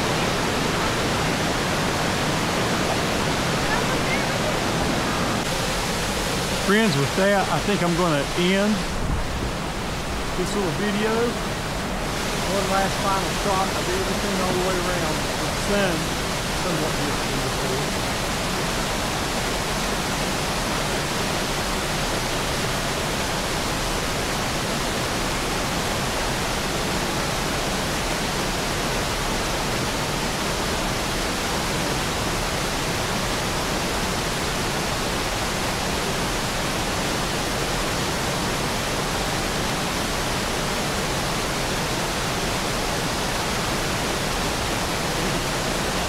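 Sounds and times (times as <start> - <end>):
water rushing over a waterfall: 0.0 - 46.0.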